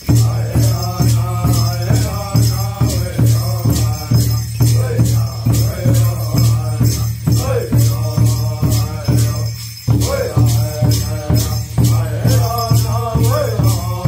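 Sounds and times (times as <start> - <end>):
bells and rattles jingling: 0.0 - 14.0
large drum beaten steadily: 0.0 - 14.0
men chanting in unison: 0.0 - 14.0.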